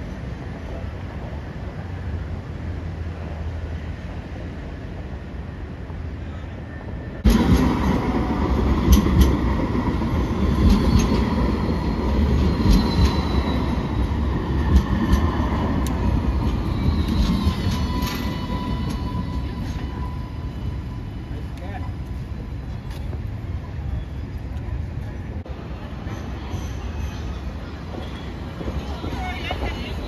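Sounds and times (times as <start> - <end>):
tram wheels rumbling on rail: 0.0 - 30.0.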